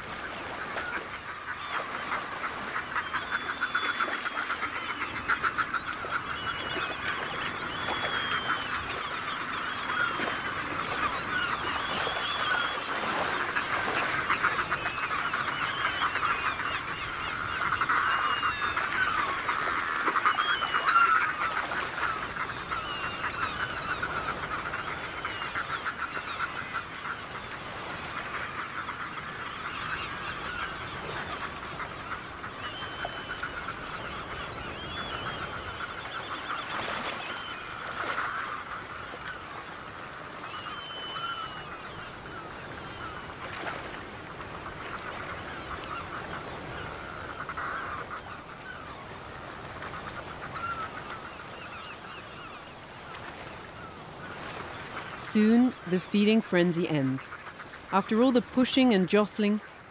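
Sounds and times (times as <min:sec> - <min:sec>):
seabirds calling raucously: 0:00.1 - 0:59.9.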